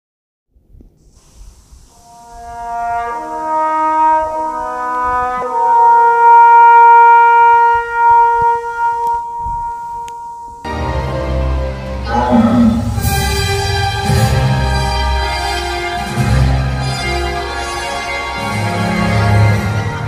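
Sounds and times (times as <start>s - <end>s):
brass instruments holding a chord: 2.0s - 20.0s.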